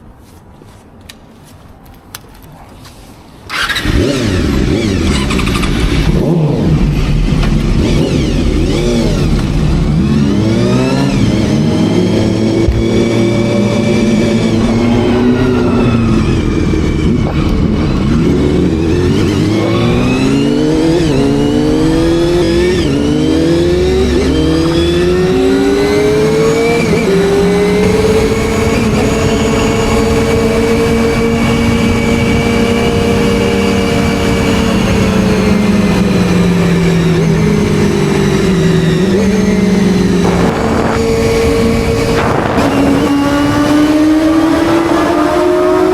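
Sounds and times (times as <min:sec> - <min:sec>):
motorcycle engine accelerating: 0:03.5 - 0:45.9.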